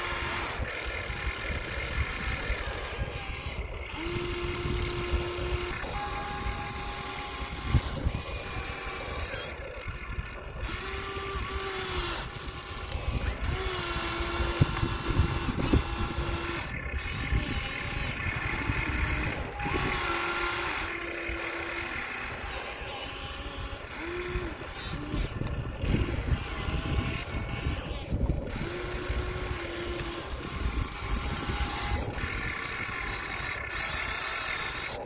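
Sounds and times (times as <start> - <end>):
gritty scraping and crunching: 0.0 - 35.0
toy electric motors whining: 0.0 - 35.0.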